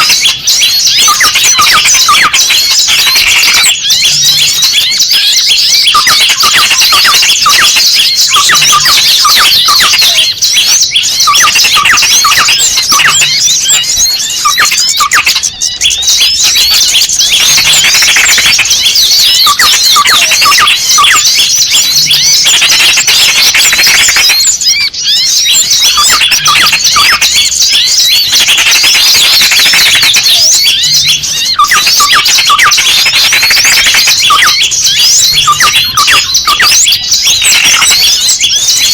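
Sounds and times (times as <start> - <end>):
small birds chirping and squeaking: 0.0 - 38.9.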